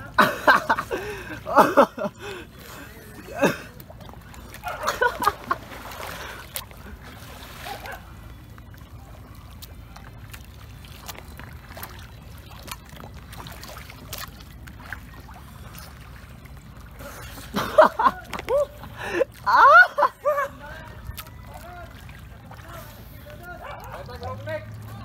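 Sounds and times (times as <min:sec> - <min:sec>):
sea water splashing: 0:00.0 - 0:25.0.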